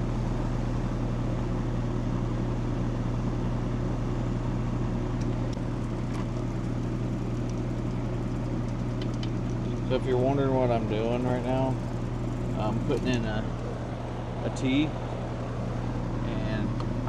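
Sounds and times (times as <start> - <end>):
compressor hum: 0.0 - 17.0
condenser fan noise: 0.0 - 17.0.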